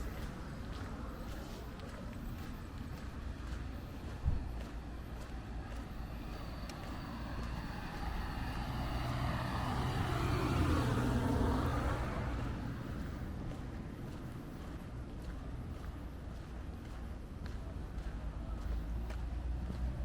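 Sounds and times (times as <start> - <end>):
car passing: 0.0 - 20.0.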